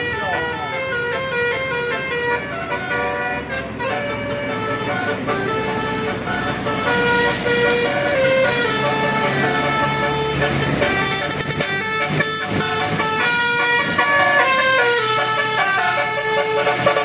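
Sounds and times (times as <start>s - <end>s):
multi-tone bus horn melody: 0.0s - 17.0s.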